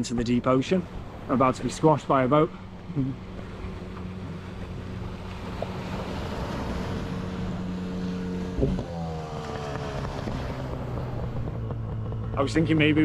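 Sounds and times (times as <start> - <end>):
boat motor running: 0.0 - 13.0
surf: 0.0 - 13.0.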